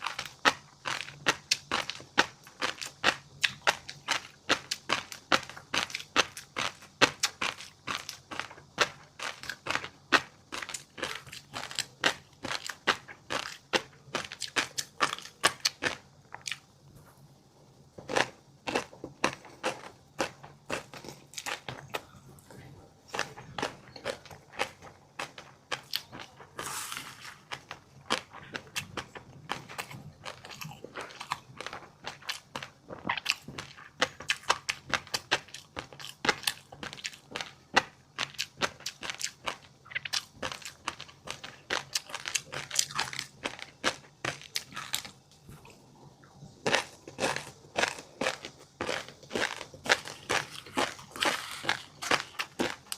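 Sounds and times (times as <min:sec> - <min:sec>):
crunchy chewing: 0:00.0 - 0:17.3, 0:17.9 - 0:52.9.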